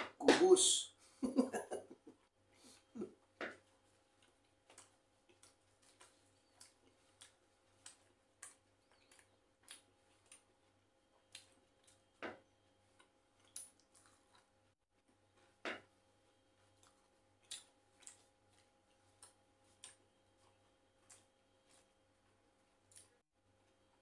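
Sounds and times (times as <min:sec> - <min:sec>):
faint chewing clicks: 0:02.2 - 0:24.0.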